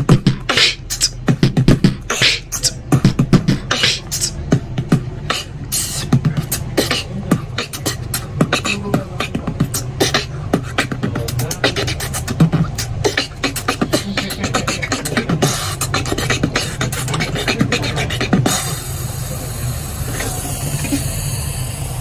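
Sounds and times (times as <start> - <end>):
person beatboxing: 0.0 - 22.0
steady low bass: 1.1 - 22.0.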